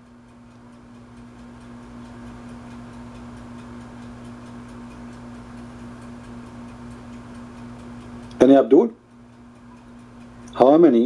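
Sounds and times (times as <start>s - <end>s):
faint fast ticking: 0.0s - 11.0s
low electrical hum: 0.0s - 11.0s.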